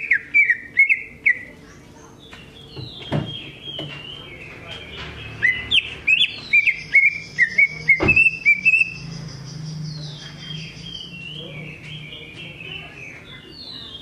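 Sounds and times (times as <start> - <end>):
bird singing whistled notes: 0.0 - 1.5, 2.5 - 14.0.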